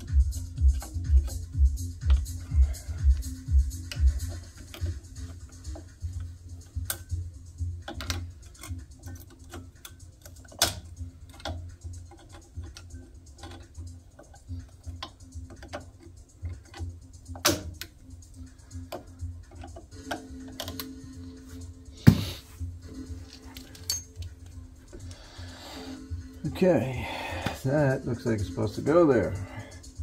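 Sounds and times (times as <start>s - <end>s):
faint background music: 0.0s - 30.0s.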